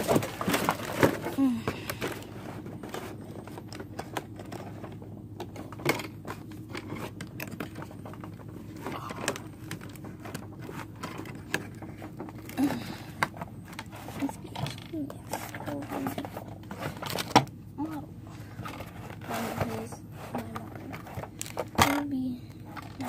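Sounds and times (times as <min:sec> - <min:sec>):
handling cardboard and plastic packaging: 0:00.0 - 0:23.0
steady low hum: 0:00.0 - 0:23.0.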